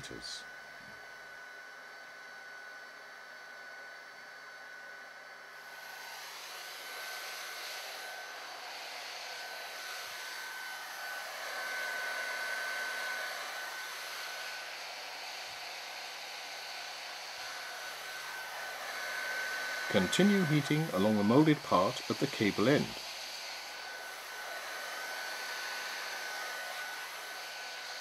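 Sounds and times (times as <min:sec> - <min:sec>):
heat gun blowing with high whine: 0:00.0 - 0:28.0.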